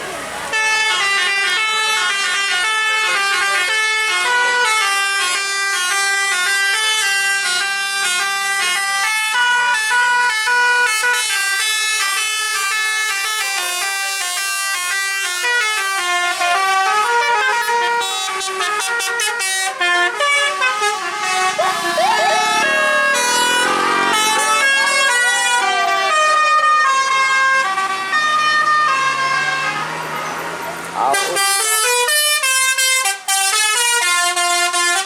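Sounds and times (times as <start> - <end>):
bus multi-tone horn tune: 0.5 - 35.0.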